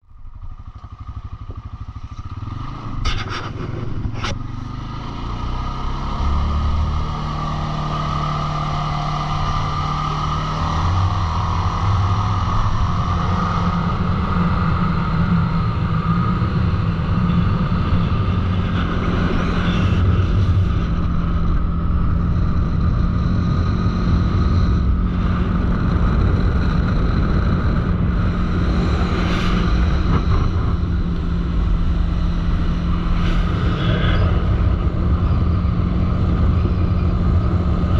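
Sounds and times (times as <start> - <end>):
atv engine running: 0.0 - 37.9.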